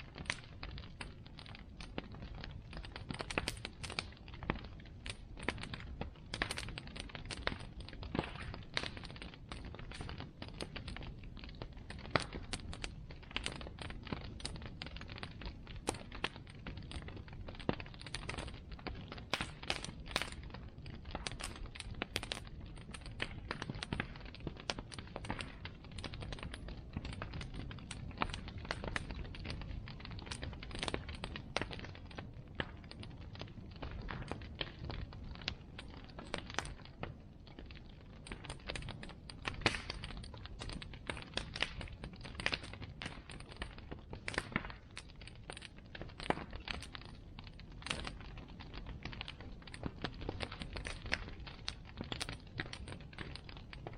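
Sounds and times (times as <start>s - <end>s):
fire crackling and popping: 0.0s - 53.9s
low rush of flames: 0.0s - 53.9s.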